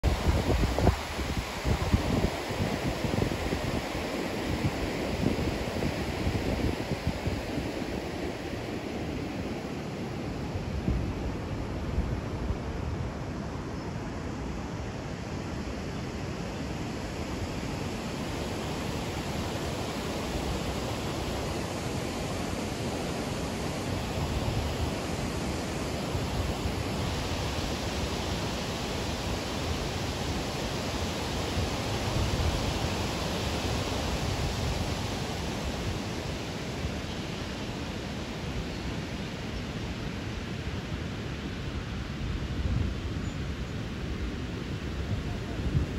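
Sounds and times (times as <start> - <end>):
river water rushing over weir: 0.0 - 12.0, 16.3 - 42.3.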